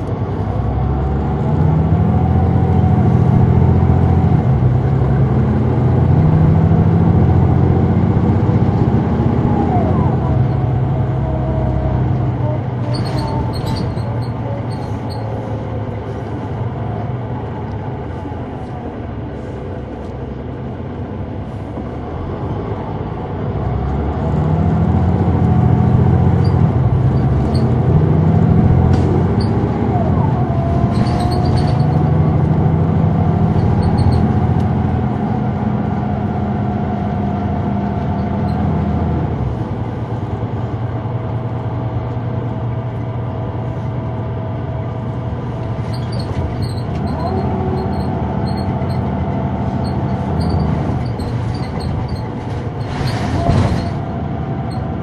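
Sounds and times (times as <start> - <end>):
bus engine and gearbox whine: 0.0 - 55.0.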